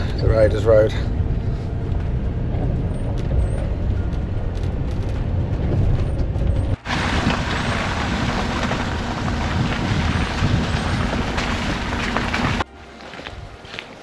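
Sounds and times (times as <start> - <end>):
low hum: 0.0 - 14.0
vehicle engine and tyre noise: 0.0 - 14.0.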